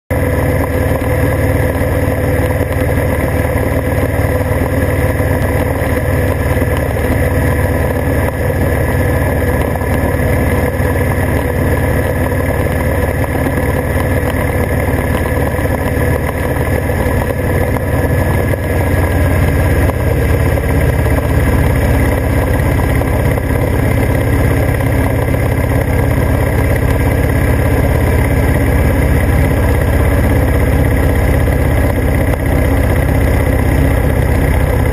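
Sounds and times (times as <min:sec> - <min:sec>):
motorcycle engine drone: 0:00.1 - 0:34.9
wind and road noise rumble: 0:00.2 - 0:34.9.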